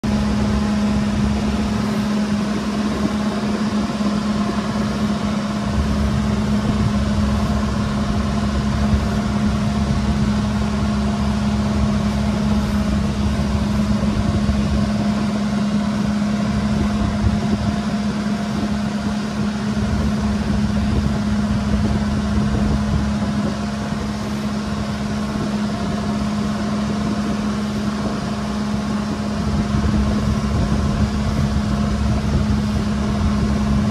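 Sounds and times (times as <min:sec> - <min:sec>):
boat engine droning: 0:00.0 - 0:33.9.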